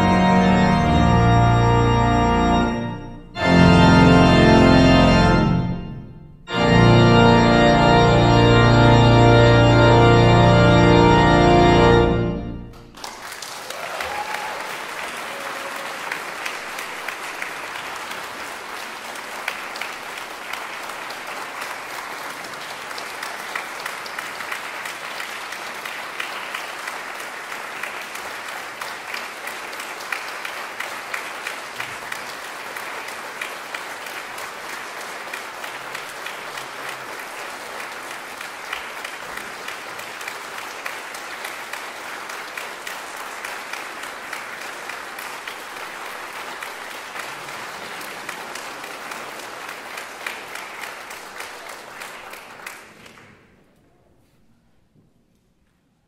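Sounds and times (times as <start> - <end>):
audience applauding: 0.0 - 5.9, 6.5 - 53.5.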